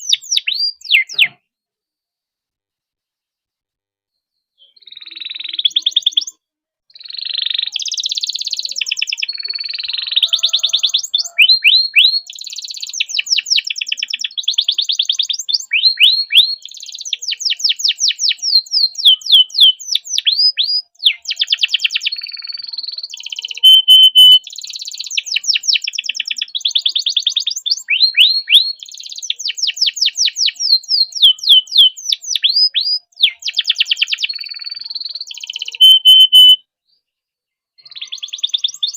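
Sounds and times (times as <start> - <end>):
canary singing trills: 0.0 - 1.4, 4.6 - 36.6, 37.8 - 38.9.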